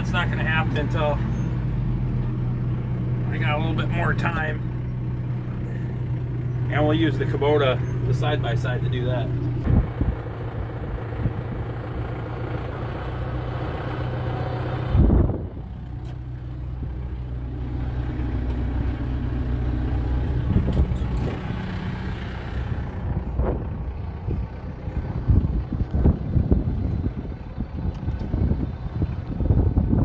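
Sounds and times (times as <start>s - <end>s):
farm vehicle engine running: 0.0s - 30.0s.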